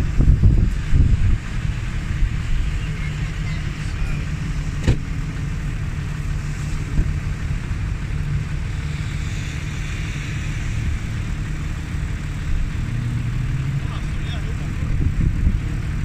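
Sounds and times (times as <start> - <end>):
engine running under load: 0.0 - 16.0.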